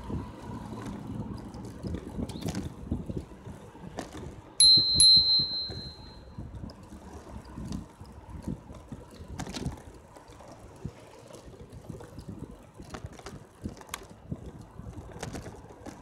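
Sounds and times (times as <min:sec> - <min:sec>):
wind buffeting microphone: 0:00.0 - 0:10.1, 0:10.7 - 0:16.0
bicycle road rumble: 0:00.0 - 0:16.0.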